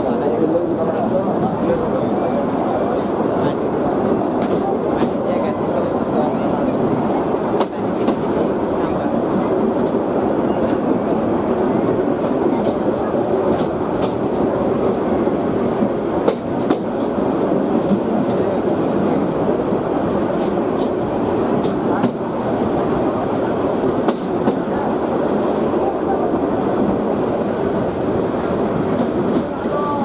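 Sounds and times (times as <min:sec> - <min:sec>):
train rumbling on track: 0:00.0 - 0:30.0.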